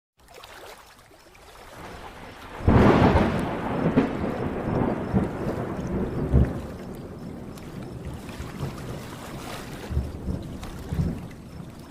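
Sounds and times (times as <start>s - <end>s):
thunder clap and rumble: 1.8s - 11.9s.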